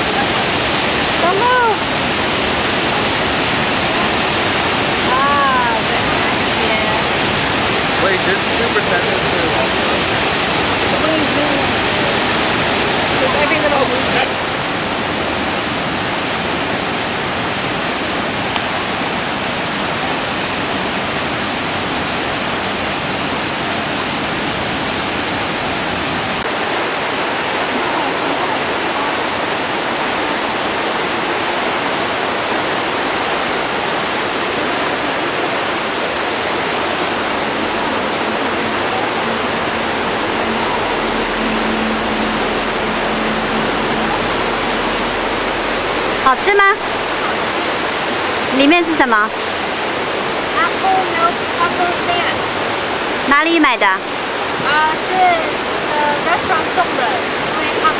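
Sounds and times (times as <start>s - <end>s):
rushing water: 0.0s - 57.9s.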